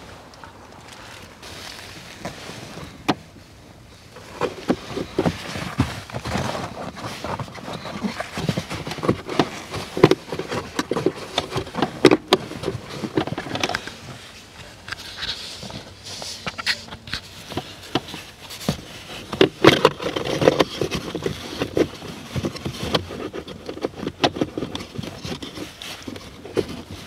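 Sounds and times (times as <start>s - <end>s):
air filter knocking and scraping: 4.0s - 27.0s.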